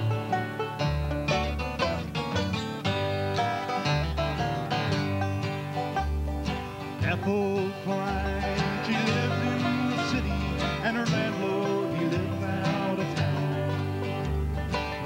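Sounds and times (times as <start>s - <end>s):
bluegrass band playing: 0.0s - 15.0s
upright bass notes: 0.0s - 15.0s.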